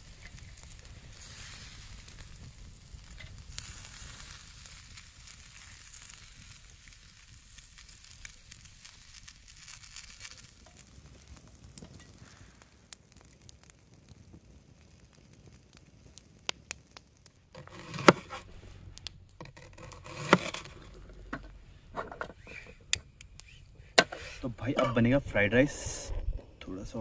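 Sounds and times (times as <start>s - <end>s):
food sizzling on a grill: 0.0s - 26.1s
sharp crackles: 0.0s - 27.0s.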